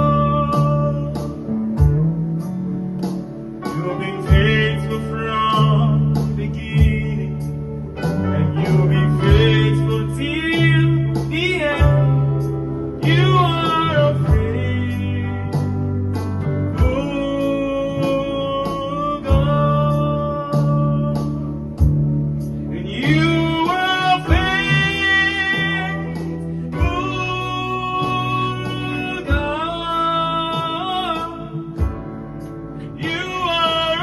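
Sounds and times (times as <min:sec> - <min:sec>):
person singing: 0:00.0 - 0:02.0, 0:03.6 - 0:16.0, 0:16.6 - 0:22.0, 0:22.7 - 0:32.0, 0:32.8 - 0:34.0
guitar and bass with beat: 0:00.0 - 0:34.0.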